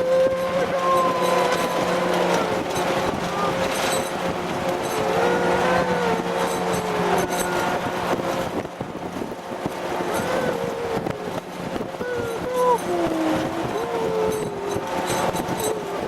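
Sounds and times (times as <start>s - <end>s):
wavering tones: 0.0s - 8.5s, 10.0s - 16.0s
constant low hum: 0.0s - 16.0s.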